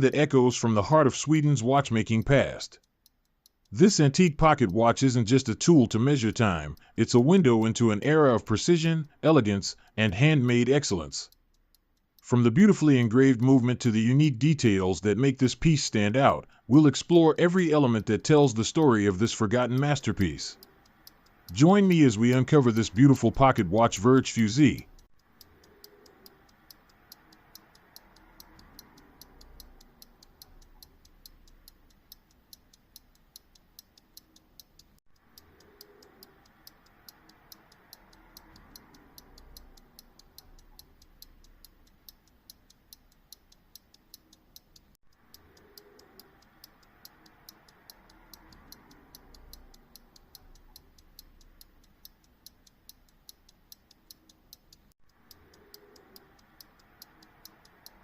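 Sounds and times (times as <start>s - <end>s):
pocket watch ticking: 0.0s - 58.0s.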